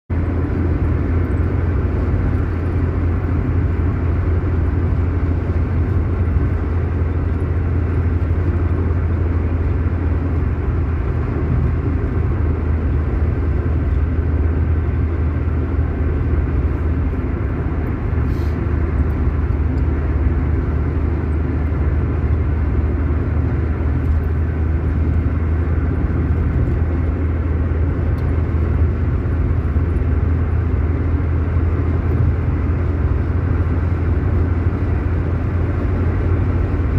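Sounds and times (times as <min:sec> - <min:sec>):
steady low rumbling: 0:00.1 - 0:36.9.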